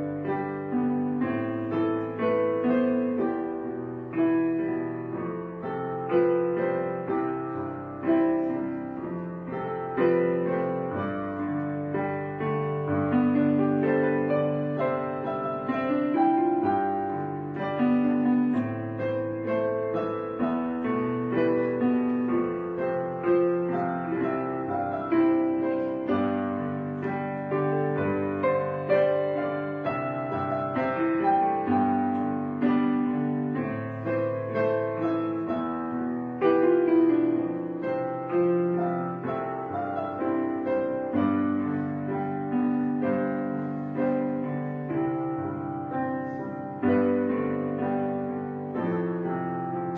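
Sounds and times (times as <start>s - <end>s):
gentle piano melody: 0.0s - 49.9s.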